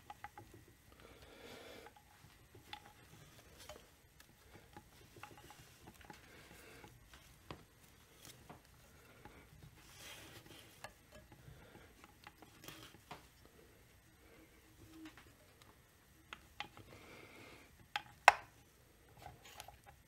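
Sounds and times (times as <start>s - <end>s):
soft rustle: 0.0s - 17.7s.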